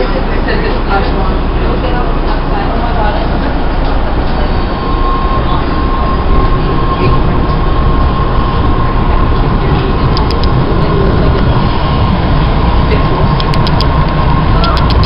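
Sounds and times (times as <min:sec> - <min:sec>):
high whine: 0:00.0 - 0:15.0
subway train rumble: 0:00.0 - 0:15.0.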